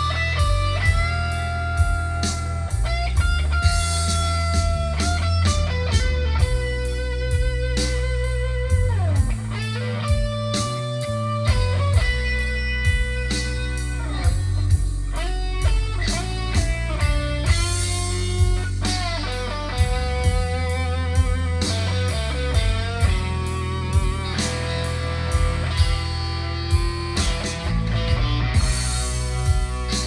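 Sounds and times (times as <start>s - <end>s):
backing track with bass and beat: 0.0s - 30.0s
electric guitar blues lead: 0.0s - 30.0s.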